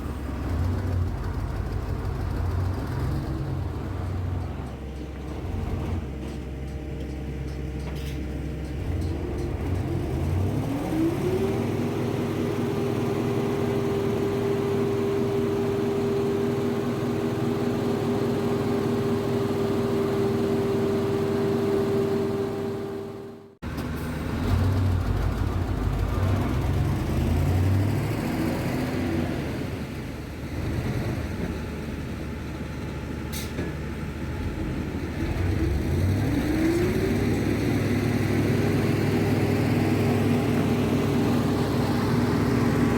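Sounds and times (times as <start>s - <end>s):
lorry engine running and revving: 0.0s - 6.2s, 8.7s - 33.3s, 34.0s - 42.9s.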